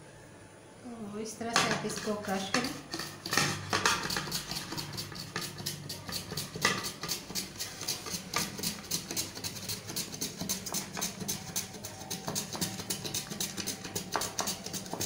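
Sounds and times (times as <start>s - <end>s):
carrot scraping on metal grater: 1.6s - 15.0s.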